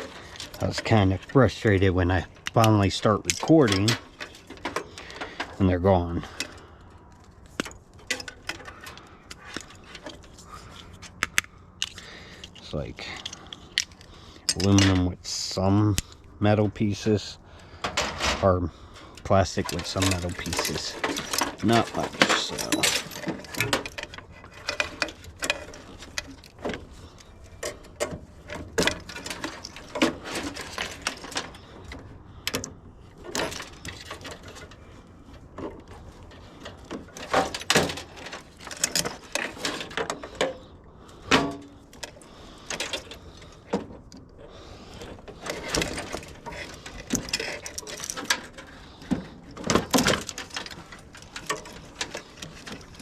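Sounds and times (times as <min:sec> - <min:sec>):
metal and plastic parts clanking: 0:00.0 - 0:16.2, 0:16.8 - 0:53.0.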